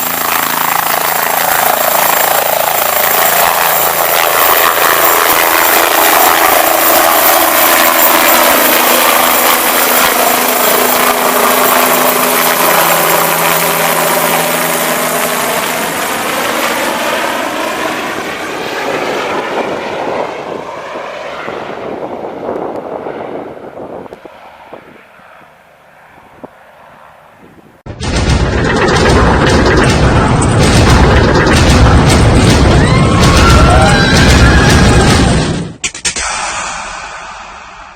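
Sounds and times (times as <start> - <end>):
helicopter rotor and turbine: 0.0 - 37.9.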